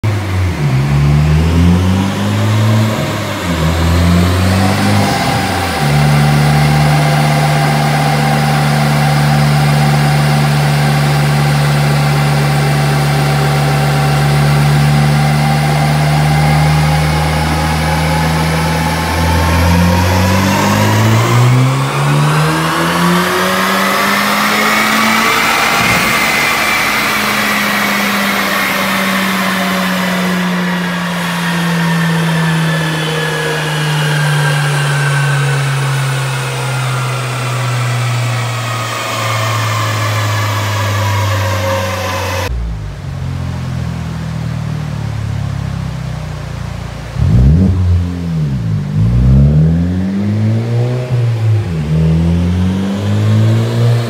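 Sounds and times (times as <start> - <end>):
car engine revving on a dyno: 0.0 - 54.0
turbo whine: 3.0 - 49.9.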